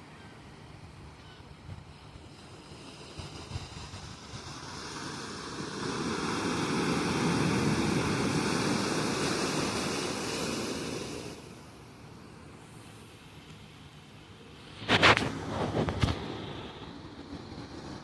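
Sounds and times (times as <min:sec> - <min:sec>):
wave breaking on shore: 0:01.9 - 0:13.2, 0:14.5 - 0:18.0.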